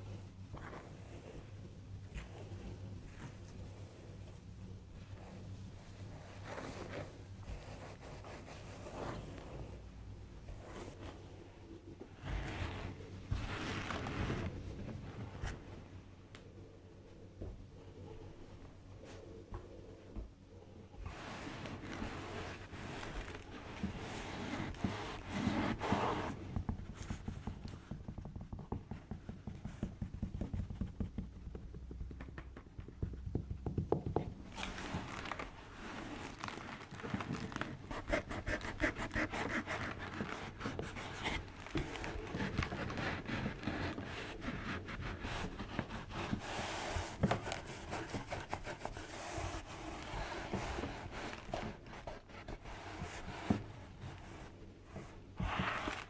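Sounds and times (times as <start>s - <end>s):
rubbing and crinkling: 0.0s - 16.2s, 18.5s - 56.0s.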